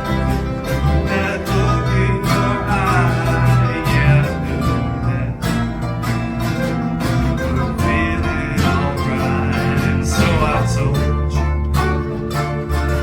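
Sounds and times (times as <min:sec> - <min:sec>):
acoustic country band playing: 0:00.0 - 0:13.0.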